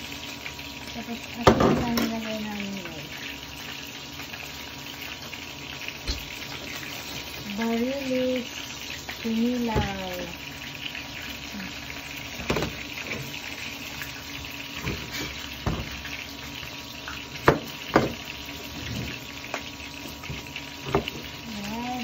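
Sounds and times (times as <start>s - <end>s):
frying hiss: 0.0s - 22.0s.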